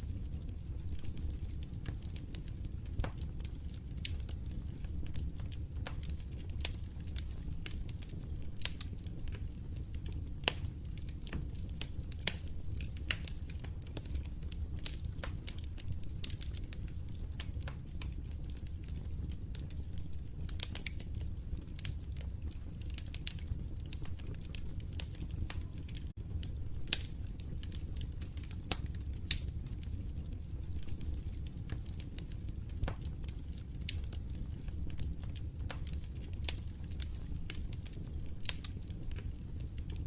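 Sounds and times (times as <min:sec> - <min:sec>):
log fire crackling and popping: 0:00.0 - 0:40.0.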